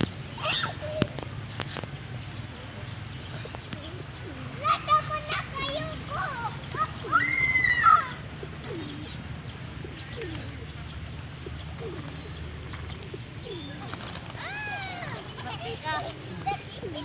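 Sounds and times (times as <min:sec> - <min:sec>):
birds calling low: 0:00.0 - 0:17.0.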